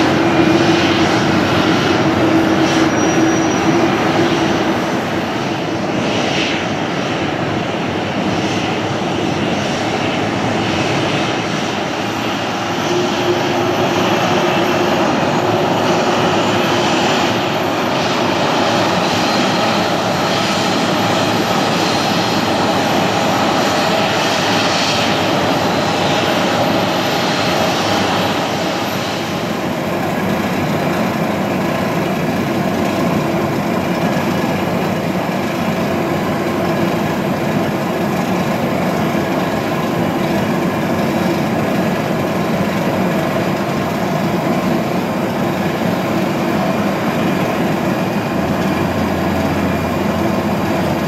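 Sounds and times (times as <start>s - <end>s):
jet engines running: 0.0s - 51.0s.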